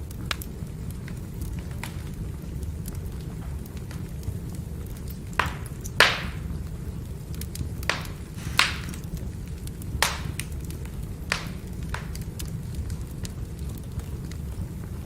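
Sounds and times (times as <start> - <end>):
firewood burning and crackling: 0.0 - 15.0.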